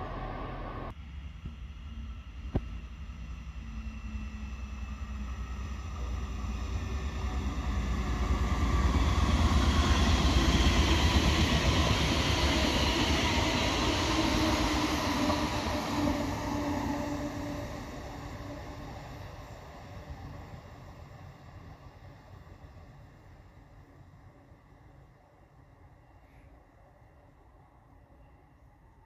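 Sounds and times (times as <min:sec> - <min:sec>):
train passing on rails: 0:00.0 - 0:29.0.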